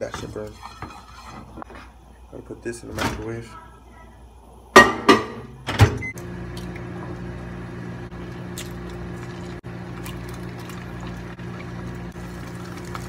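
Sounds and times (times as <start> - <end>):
microwave oven humming: 1.7 - 13.0.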